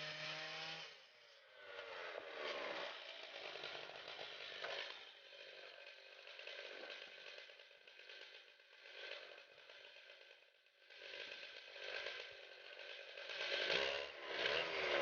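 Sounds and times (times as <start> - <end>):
chainsaw engine revs: 0.0 - 15.0
sawmill rattling and hissing: 1.8 - 10.2, 10.9 - 15.0.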